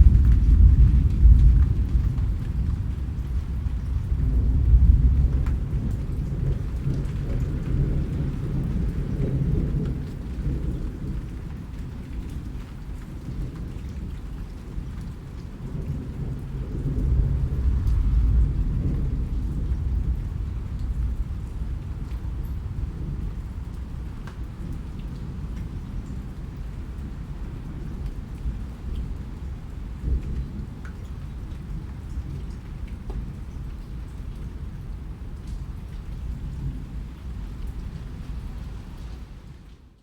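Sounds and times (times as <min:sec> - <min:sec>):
raindrop ticks: 0:00.0 - 0:39.2
low rolling thunder: 0:00.0 - 0:39.7
steady rain: 0:00.0 - 0:40.0.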